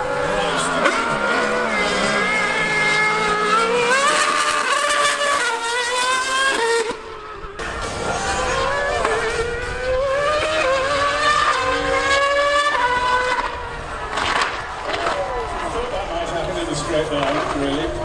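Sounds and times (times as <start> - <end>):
racing engine accelerating hard: 0.0 - 18.0.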